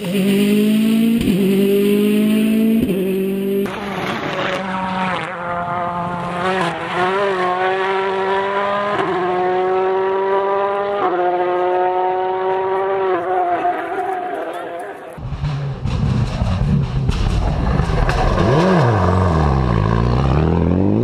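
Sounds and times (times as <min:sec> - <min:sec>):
rally car engine at high revs: 0:00.0 - 0:21.0.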